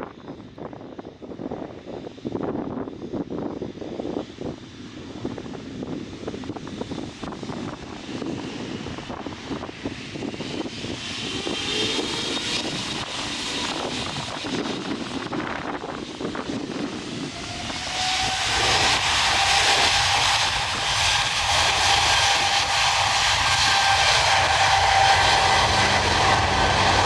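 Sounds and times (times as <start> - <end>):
wind noise on microphone: 0.0 - 27.0
jet engines whining: 2.0 - 27.0.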